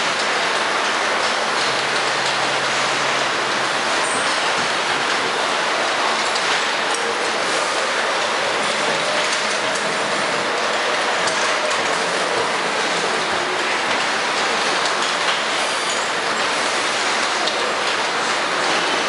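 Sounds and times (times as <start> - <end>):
factory floor hiss-like roar: 0.0 - 19.0.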